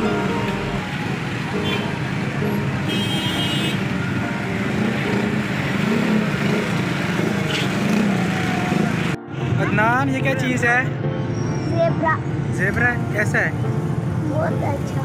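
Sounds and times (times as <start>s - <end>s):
cars and motorcycles in traffic: 0.0s - 15.0s.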